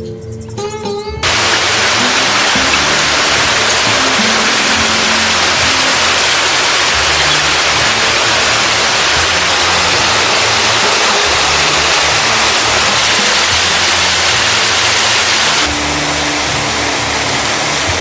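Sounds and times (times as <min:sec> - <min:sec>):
background music with low bass: 0:00.0 - 0:18.0
water rushing: 0:01.2 - 0:18.0.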